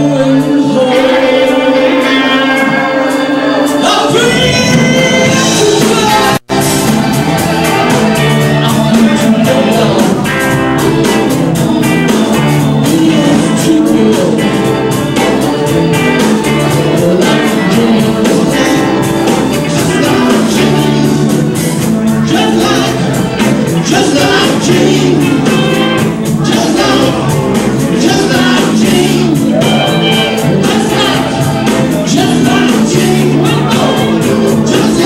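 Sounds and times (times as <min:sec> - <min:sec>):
live blues band playing: 0:00.0 - 0:35.0.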